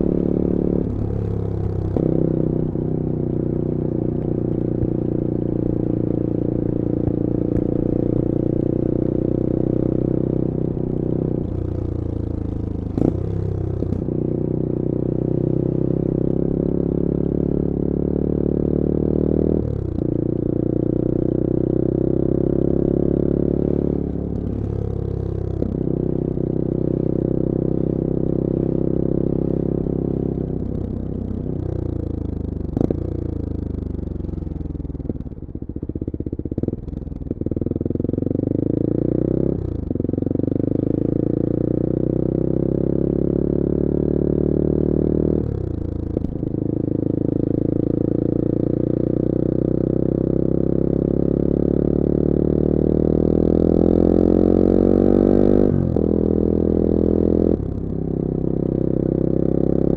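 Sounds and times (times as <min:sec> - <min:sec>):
motorcycle engine revving: 0:00.0 - 0:35.4, 0:36.1 - 0:59.9.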